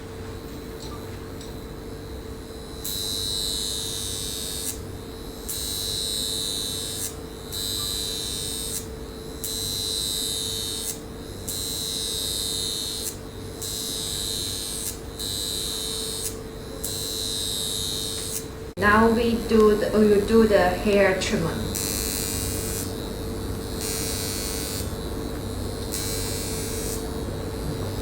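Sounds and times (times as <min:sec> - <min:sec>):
electrode handle buzzing: 0:00.0 - 0:28.0
machine humming: 0:00.0 - 0:28.0.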